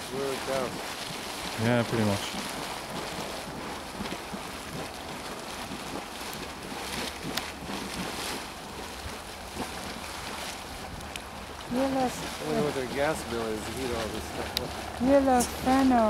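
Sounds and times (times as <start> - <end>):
water boiling and splashing: 0.0 - 16.0.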